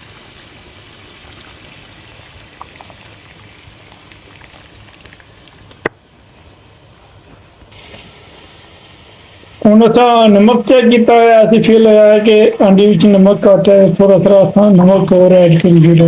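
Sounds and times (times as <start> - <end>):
soup bubbling in a pot: 0.0 - 16.0.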